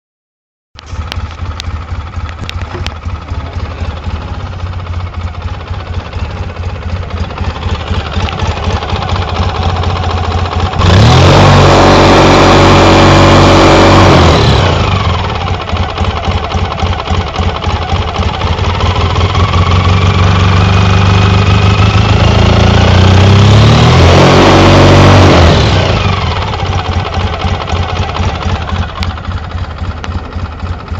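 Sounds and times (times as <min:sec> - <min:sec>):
engine idling and revving: 0:00.8 - 0:30.9.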